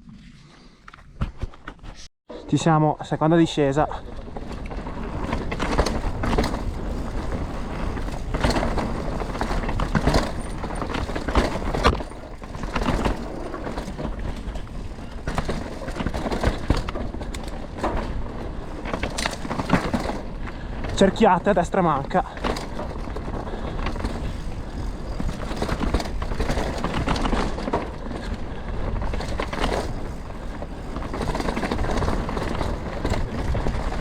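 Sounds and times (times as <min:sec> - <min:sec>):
bike rattles and knocks: 0:03.6 - 0:34.0
bike tyres over dirt and rock: 0:03.6 - 0:34.0.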